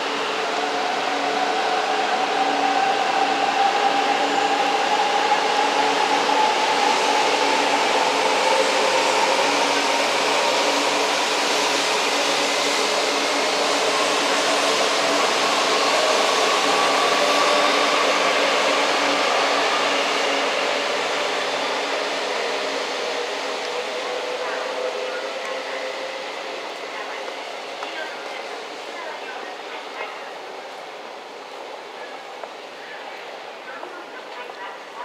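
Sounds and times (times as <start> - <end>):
train rolling noise: 0.0 - 35.0.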